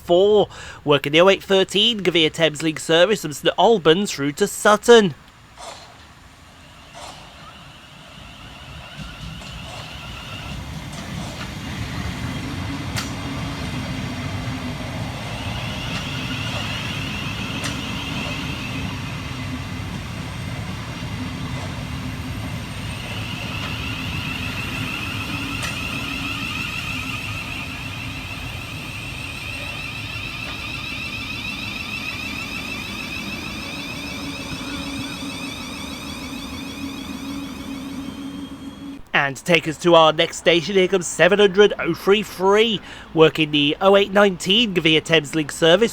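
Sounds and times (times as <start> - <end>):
train rumble: 0.0 - 45.9
high whine: 7.4 - 45.9.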